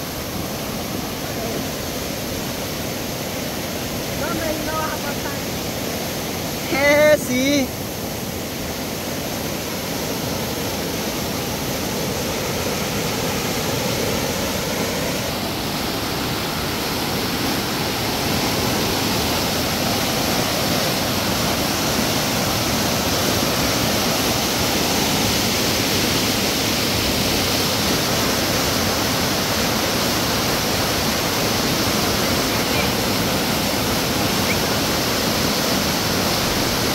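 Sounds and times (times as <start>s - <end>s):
river water rushing: 0.0s - 36.9s.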